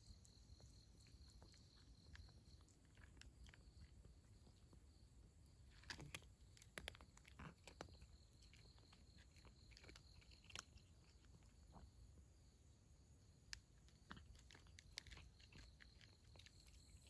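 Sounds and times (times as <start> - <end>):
cat crunching dry kibble: 0.0 - 4.9, 5.6 - 12.0, 13.4 - 17.0.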